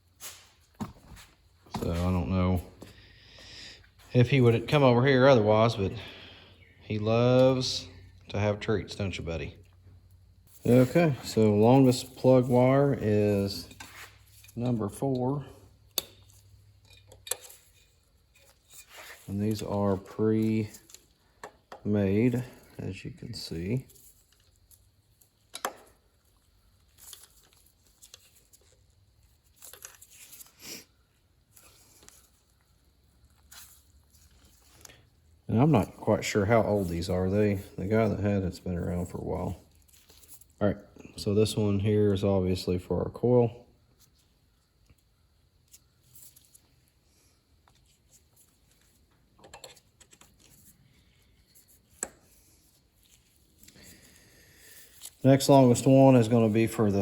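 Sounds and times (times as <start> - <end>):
rustling of wires: 9.3 - 42.2, 43.8 - 57.0.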